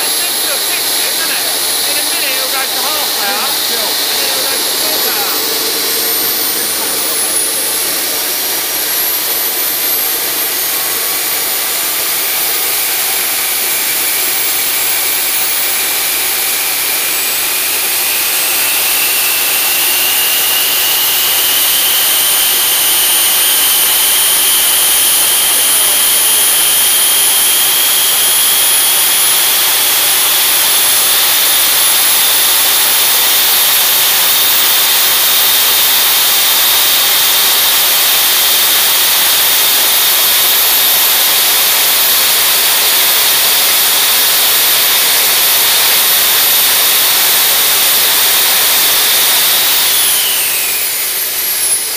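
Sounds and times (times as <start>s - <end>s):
jet engine hiss with turbine whine: 0.0s - 51.9s.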